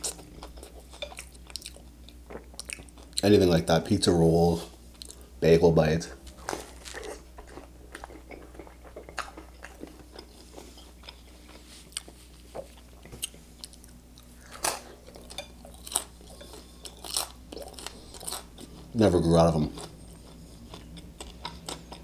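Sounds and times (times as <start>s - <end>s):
close-miked chewing: 0.0s - 3.3s, 6.3s - 22.0s.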